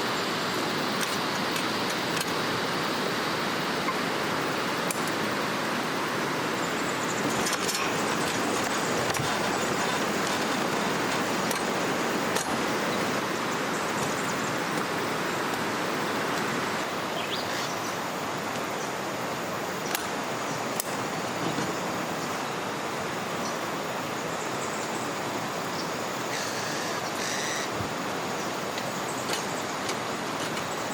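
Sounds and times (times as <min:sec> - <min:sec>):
flowing river water: 0:00.0 - 0:30.9.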